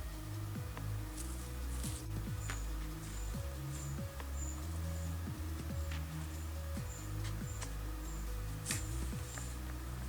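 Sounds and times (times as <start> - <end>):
low bass notes: 0.0 - 10.0.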